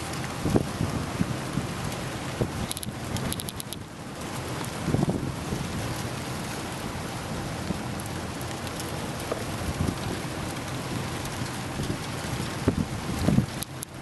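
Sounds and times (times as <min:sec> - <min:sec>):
wind gusts buffeting microphone: 0:00.0 - 0:14.0
wind-driven rain hissing: 0:00.0 - 0:14.0.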